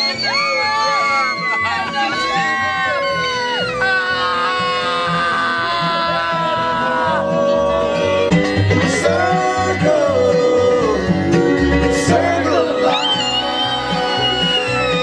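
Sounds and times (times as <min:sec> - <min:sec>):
upbeat bluegrass song: 0:00.0 - 0:15.0.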